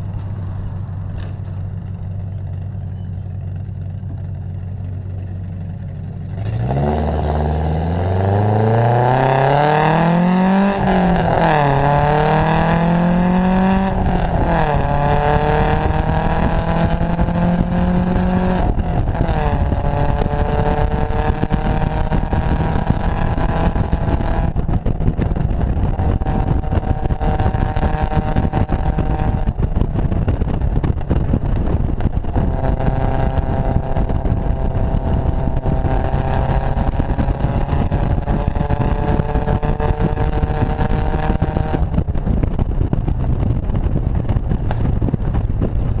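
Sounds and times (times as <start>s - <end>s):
wind noise: 0.0s - 3.2s, 6.2s - 46.0s
car engine running: 0.0s - 46.0s
road rumble: 0.0s - 46.0s.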